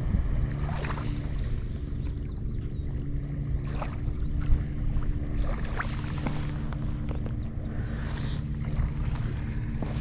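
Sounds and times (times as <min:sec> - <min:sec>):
low hum: 0:00.0 - 0:10.0
wind rumbling on microphone: 0:00.0 - 0:10.0.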